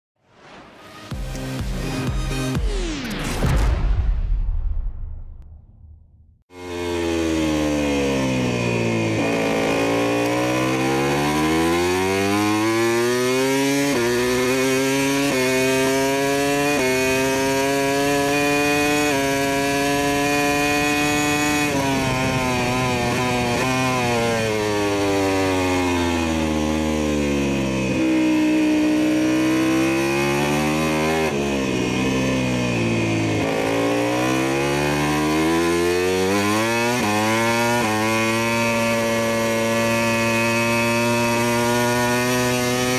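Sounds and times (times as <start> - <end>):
motorcycle engine accelerating: 5.8 - 42.9.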